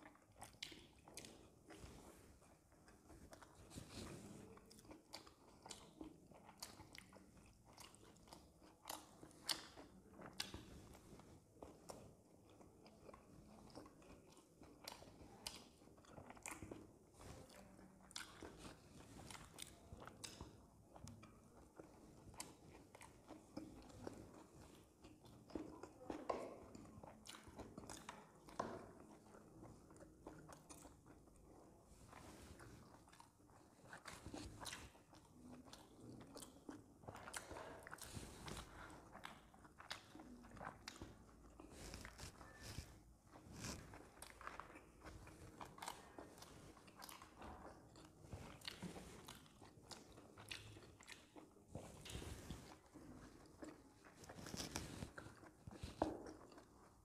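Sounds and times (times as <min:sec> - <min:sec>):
people chewing: 0:00.0 - 0:57.0.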